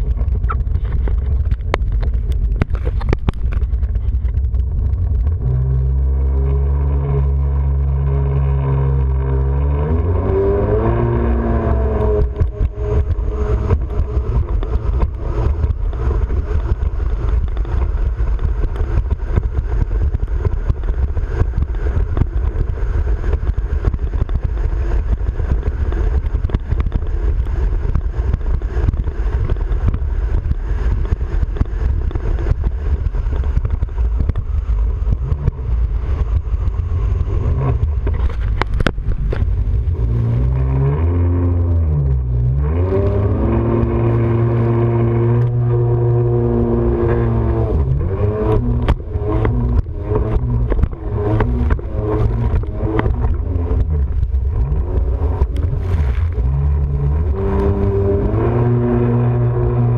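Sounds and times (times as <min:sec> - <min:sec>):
jet ski engine: 0:00.0 - 0:59.9
wind buffeting microphone: 0:00.0 - 0:59.9.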